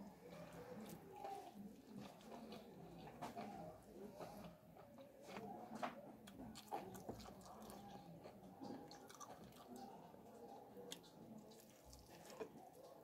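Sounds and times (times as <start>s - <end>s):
mouth chewing food: 0.0s - 13.0s.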